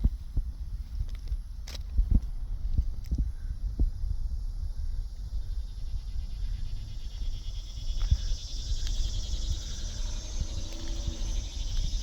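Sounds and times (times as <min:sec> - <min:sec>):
wind on microphone: 0:00.0 - 0:12.0
insect buzz in grass: 0:00.5 - 0:12.0.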